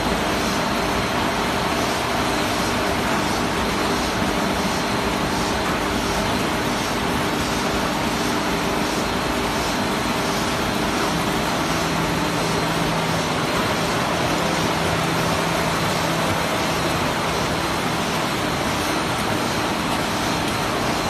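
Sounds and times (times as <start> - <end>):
packaging line machinery running: 0.0 - 21.0.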